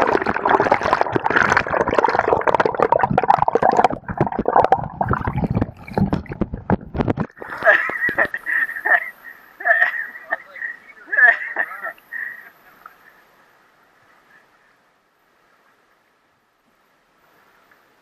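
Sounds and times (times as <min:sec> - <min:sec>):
muffled underwater river churning: 0:00.0 - 0:18.0.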